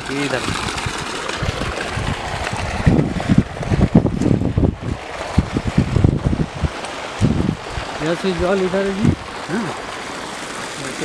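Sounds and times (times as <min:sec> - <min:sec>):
wind buffeting microphone: 0:00.0 - 0:09.9
steady outdoor hiss: 0:00.0 - 0:11.0.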